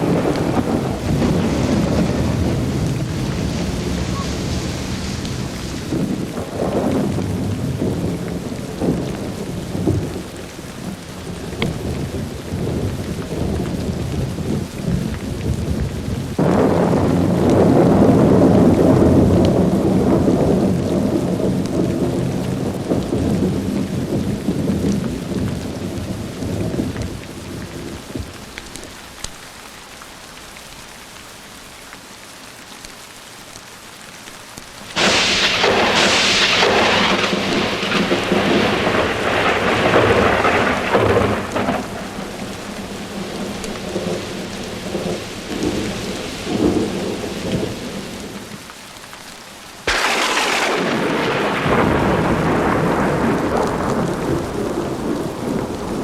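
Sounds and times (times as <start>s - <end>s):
sharp thunder crack: 0.0s - 10.3s, 10.9s - 27.2s, 34.9s - 48.4s, 49.9s - 56.0s
thunder rumbling: 0.0s - 28.5s, 34.8s - 48.6s, 49.8s - 56.0s
steady rain: 0.0s - 56.0s.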